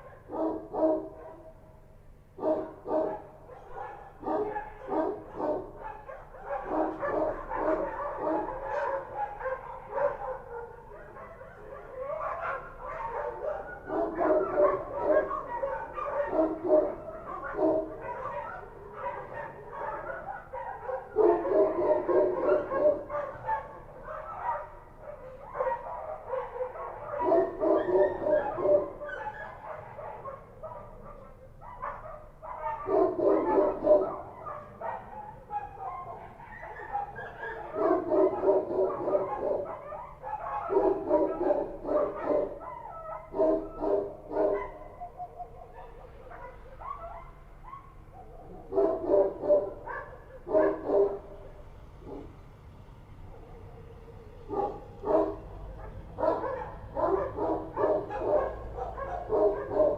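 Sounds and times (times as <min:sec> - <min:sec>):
dogs barking: 0:00.0 - 0:52.5, 0:53.2 - 0:59.9.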